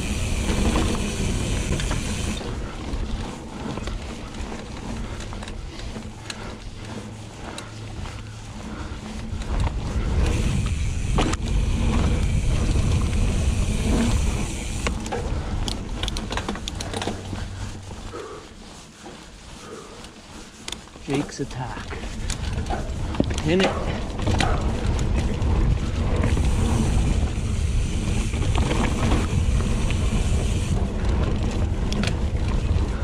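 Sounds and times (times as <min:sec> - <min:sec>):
wind buffeting microphone: 0:00.0 - 0:18.4, 0:21.9 - 0:33.0
tyres rumbling over dirt: 0:00.0 - 0:18.6, 0:20.9 - 0:33.0
bike rattling: 0:00.0 - 0:33.0.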